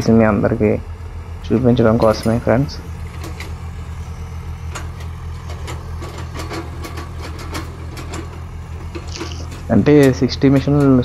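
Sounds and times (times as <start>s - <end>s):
excavator diesel engines running: 0.0s - 11.0s.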